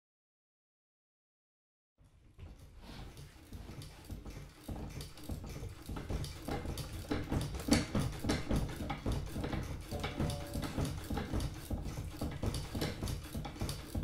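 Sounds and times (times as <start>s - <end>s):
wooden mechanism clicking and rattling: 2.4s - 14.0s.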